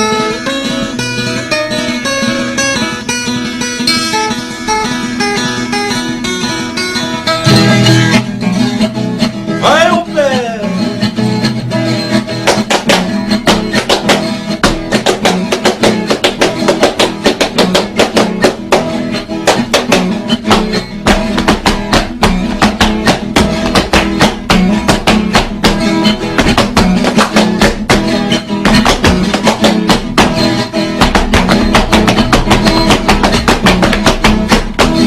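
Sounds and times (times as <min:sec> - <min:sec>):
strummed guitars: 0:00.0 - 0:35.0.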